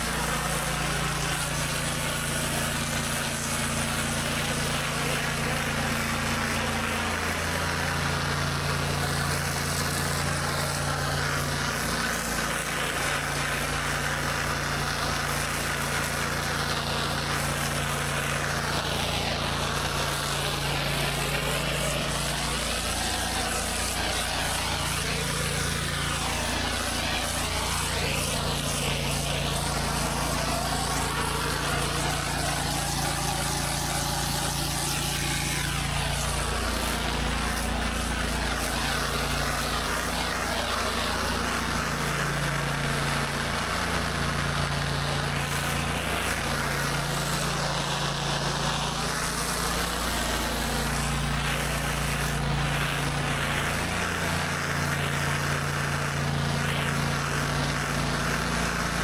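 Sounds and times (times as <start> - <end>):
high-pressure water hissing on concrete: 0.0 - 59.0
pressure washer engine running: 0.0 - 59.0.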